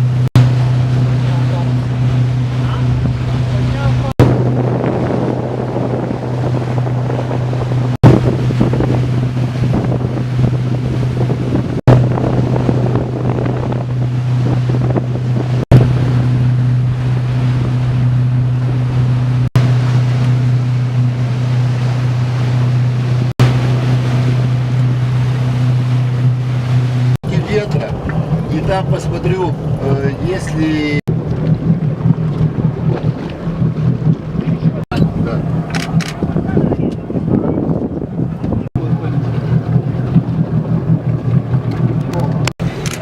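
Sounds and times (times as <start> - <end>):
boat motor humming: 0.0 - 43.0
water splashing: 0.0 - 43.0
wind buffeting microphone: 0.0 - 43.0.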